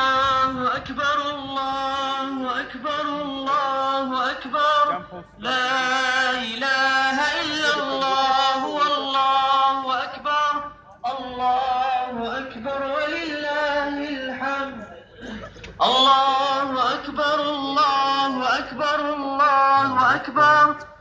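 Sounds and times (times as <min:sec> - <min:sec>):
man chanting: 0:00.0 - 0:15.0, 0:15.8 - 0:21.0.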